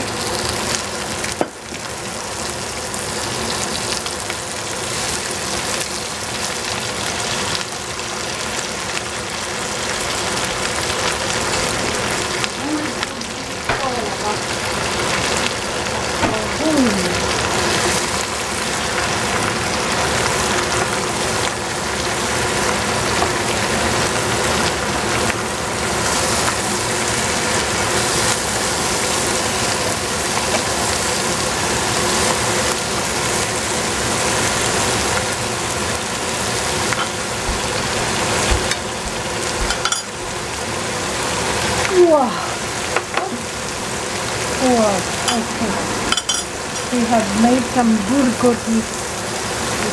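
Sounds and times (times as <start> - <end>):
vegetables sizzling in a pan: 0.0 - 49.9.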